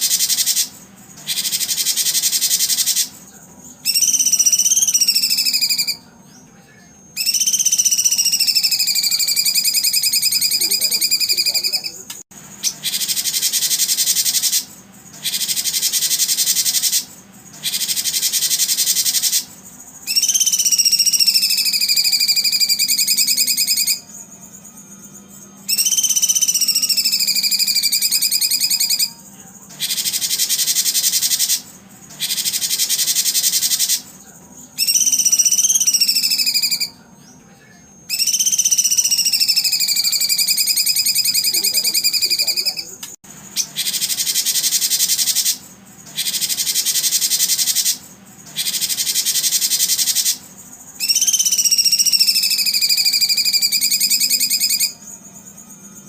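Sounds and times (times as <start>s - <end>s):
high buzzing trills: 0.0s - 56.0s
whistled bird notes: 0.0s - 56.0s.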